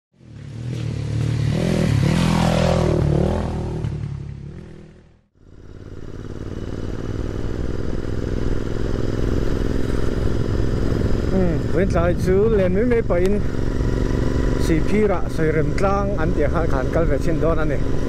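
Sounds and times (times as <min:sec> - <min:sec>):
motorcycle engine running: 0:00.2 - 0:18.0.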